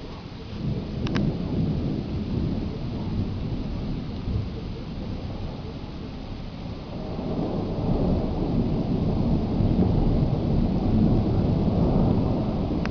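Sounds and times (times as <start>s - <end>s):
steady rain: 0.0s - 12.9s
thunder rumbling: 0.0s - 12.9s.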